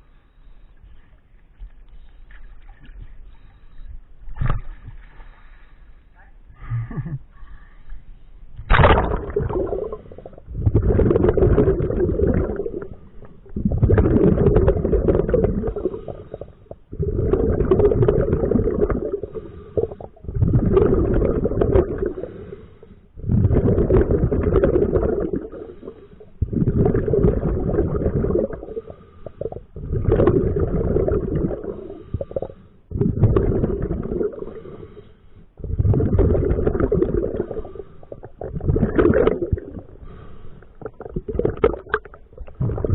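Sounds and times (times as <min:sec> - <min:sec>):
exhaled air bubbling underwater: 0:00.0 - 0:05.9, 0:06.5 - 0:42.9.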